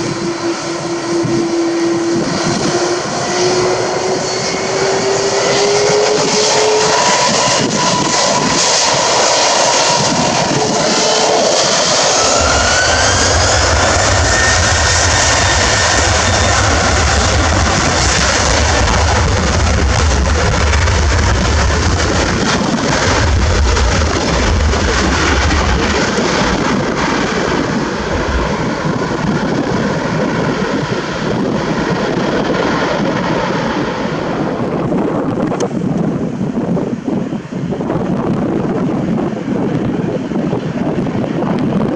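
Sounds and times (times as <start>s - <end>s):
rising engine whine: 0.0s - 40.2s
jet engines roaring: 0.0s - 41.9s.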